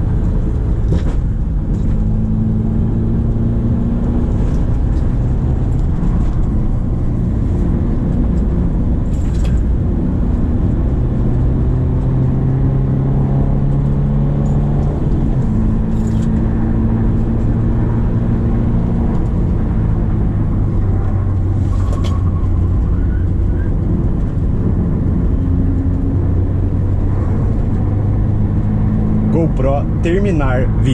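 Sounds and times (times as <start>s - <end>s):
car engine running: 0.0s - 30.9s
road noise: 0.0s - 30.9s.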